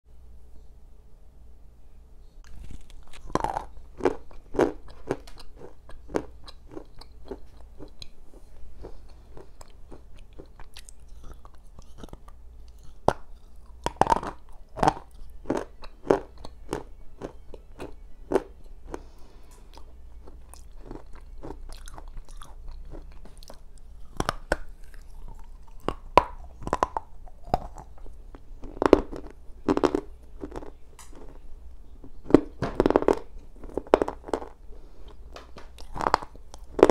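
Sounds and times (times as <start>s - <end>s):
biting and chewing clay: 2.4s - 19.1s, 19.7s - 31.4s, 32.0s - 36.9s.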